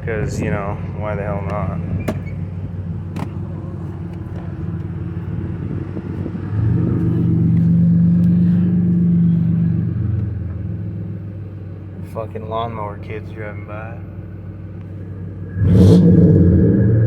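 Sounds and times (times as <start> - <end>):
car exhaust idling: 0.0 - 17.0
riding lawnmower engine drone: 0.0 - 17.0.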